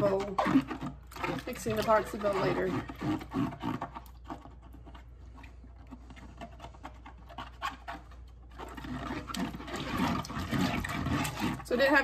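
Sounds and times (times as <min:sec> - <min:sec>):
fingers scratching plastic bottle: 0:00.0 - 0:12.0.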